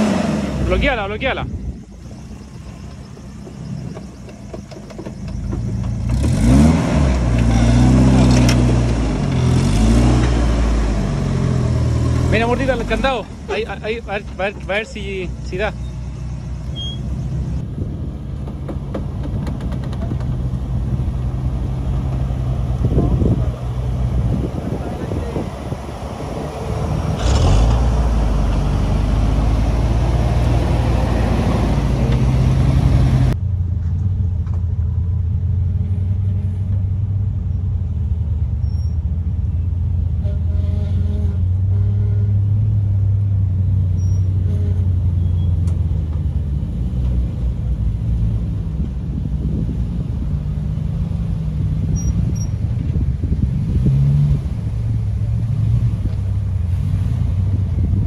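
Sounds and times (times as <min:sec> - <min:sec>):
off-road vehicle engine drone: 0:00.0 - 0:58.0.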